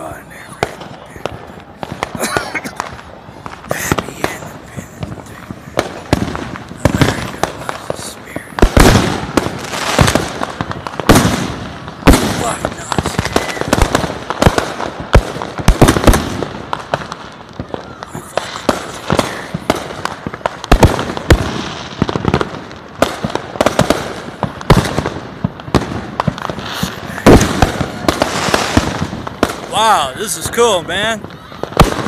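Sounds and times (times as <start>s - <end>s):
fireworks bangs and pops: 0.0s - 32.0s
fireworks crackling: 0.0s - 32.0s.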